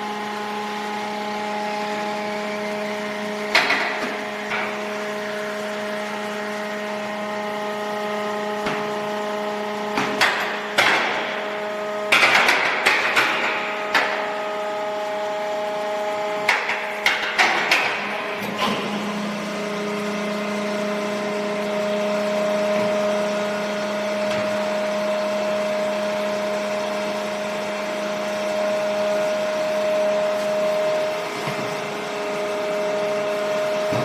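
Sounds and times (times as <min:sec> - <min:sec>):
hydraulic motor and pump hum: 0:00.0 - 0:34.0.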